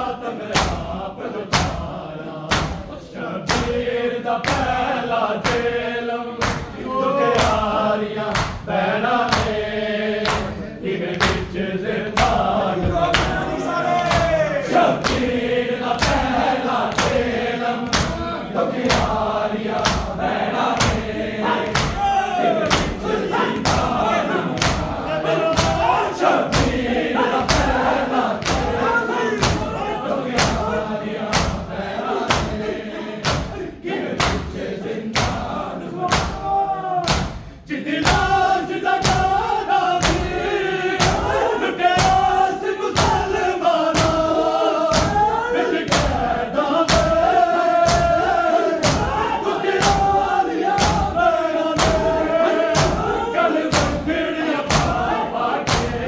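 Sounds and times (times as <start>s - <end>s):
group of voices chanting a lament: 0.0s - 56.0s
hands striking chests in unison: 0.5s - 5.8s, 6.4s - 56.0s.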